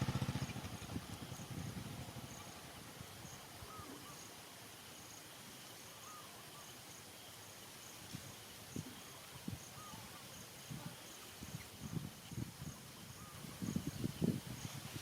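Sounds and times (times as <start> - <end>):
insect chirping: 0.0 - 15.0
small bird call: 0.0 - 15.0.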